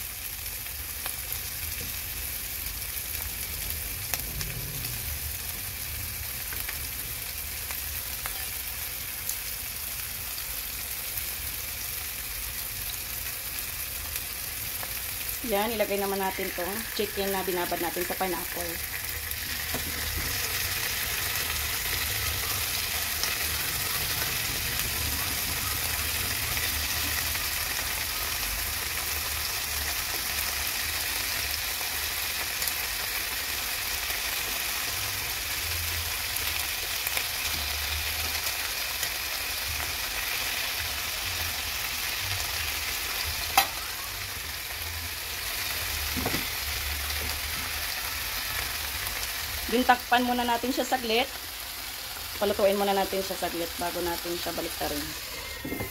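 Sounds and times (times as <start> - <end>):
chicken sizzling in oil: 0.0 - 55.9.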